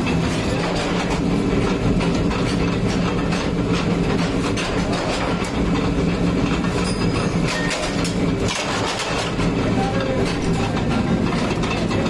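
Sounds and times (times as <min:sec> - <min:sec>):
mechanical drone of machinery: 0:00.0 - 0:12.0
metallic clanks and knocks: 0:00.0 - 0:12.0.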